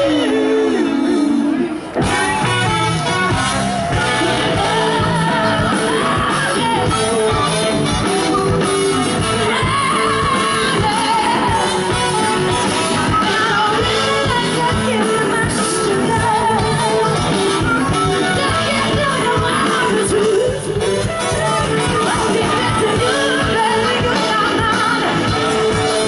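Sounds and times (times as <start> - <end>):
lead singer singing: 0.0 - 26.0
live rock band playing: 0.0 - 26.0.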